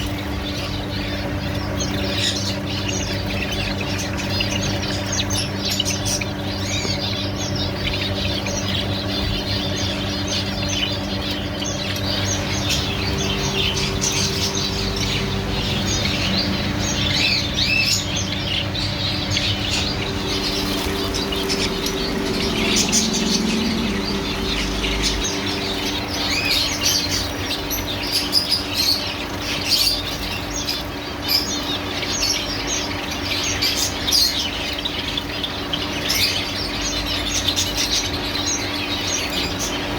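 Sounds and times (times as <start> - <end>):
cage birds chirping and twittering: 0.0 - 39.9
steady low hum: 0.0 - 39.9.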